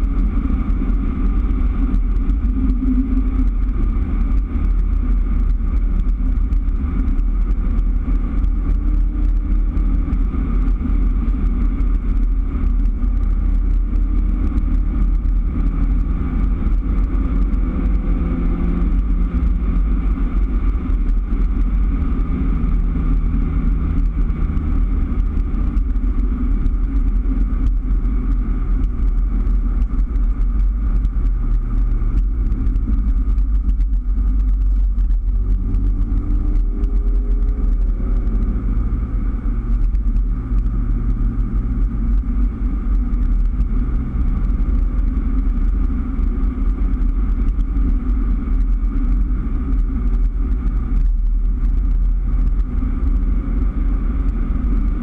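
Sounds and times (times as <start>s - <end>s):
car engine: 0.0s - 55.0s
road noise inside car: 0.0s - 55.0s.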